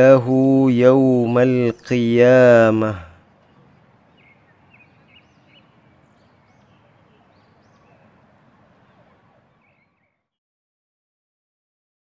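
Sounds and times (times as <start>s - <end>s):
low steady hiss: 0.0s - 10.2s
faint birds chirping: 0.0s - 10.4s.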